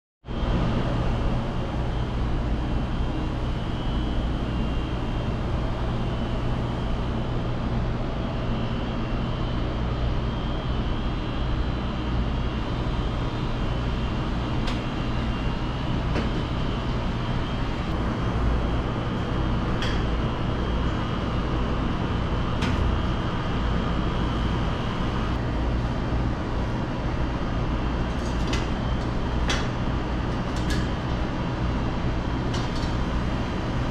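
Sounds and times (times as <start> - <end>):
kitchen machinery humming: 0.4 - 33.9.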